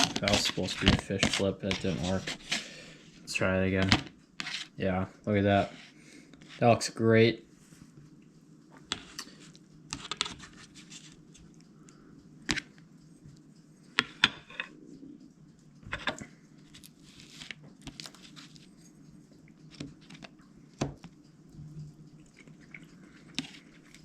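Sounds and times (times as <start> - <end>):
faint low hum: 0.0 - 24.0
light crinkling: 0.0 - 24.0.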